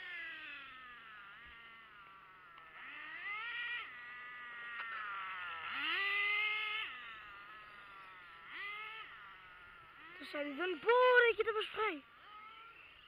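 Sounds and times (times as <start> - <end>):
small motorcycle motors revving: 0.0 - 13.0.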